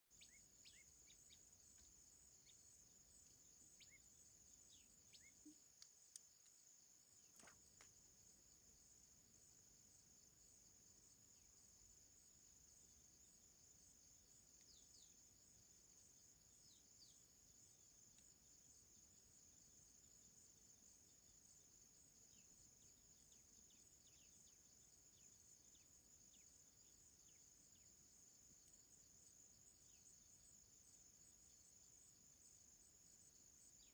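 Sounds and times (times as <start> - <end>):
small birds chirping: 0.0 - 33.9
crickets chirping: 0.1 - 33.9.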